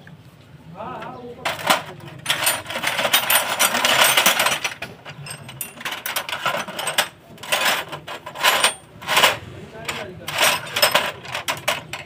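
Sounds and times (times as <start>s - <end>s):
metal hand tools clicking and rattling: 1.4s - 12.0s.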